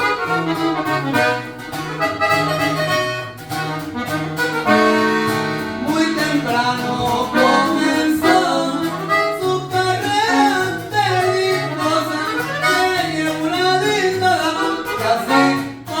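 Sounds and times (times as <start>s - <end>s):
accordion melody: 0.0s - 16.0s
walking bass line: 0.0s - 16.0s.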